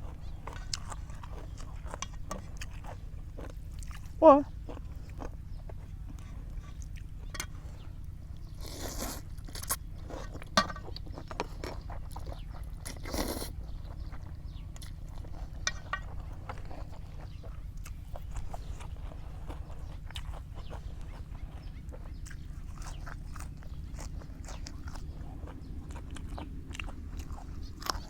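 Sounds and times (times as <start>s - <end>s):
chewing and wet mouth sounds: 0.0s - 28.0s
longer noisy eating sounds: 0.0s - 28.0s.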